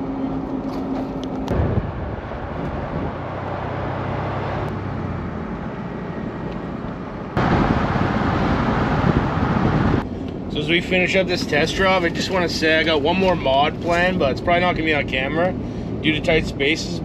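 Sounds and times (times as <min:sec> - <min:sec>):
van road and engine noise: 0:00.0 - 0:17.0.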